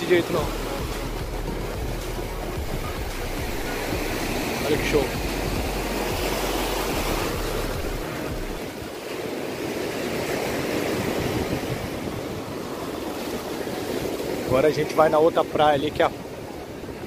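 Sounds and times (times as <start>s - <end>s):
wind rumbling on microphone: 0.0s - 14.8s
ocean surf on beach: 0.0s - 17.0s.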